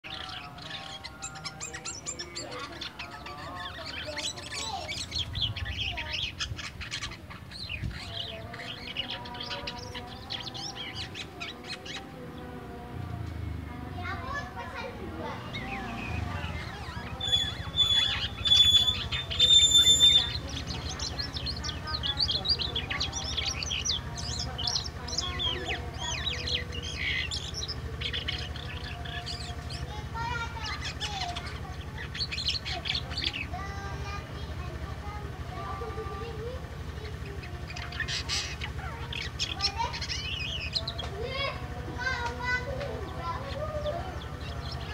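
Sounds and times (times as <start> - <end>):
starling chirping and whistling: 0.0 - 12.1, 15.5 - 41.6.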